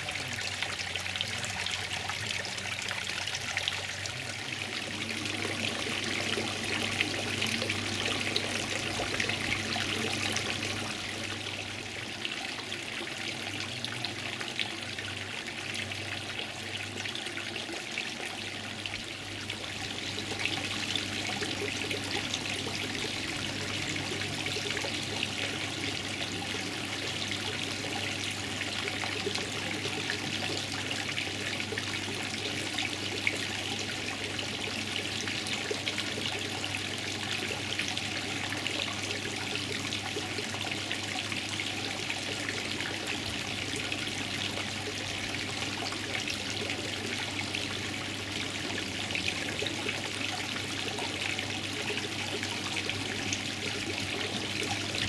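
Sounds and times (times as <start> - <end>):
water trickling: 0.0 - 55.0.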